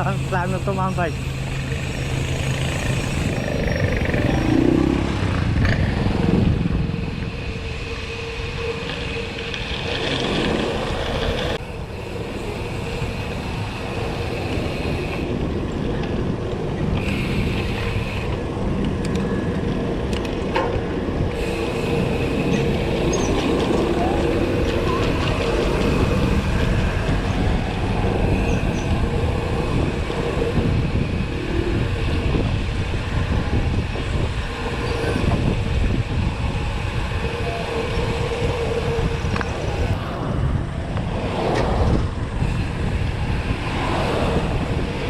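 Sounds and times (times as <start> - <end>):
vehicle engines in traffic jam: 0.0 - 45.0.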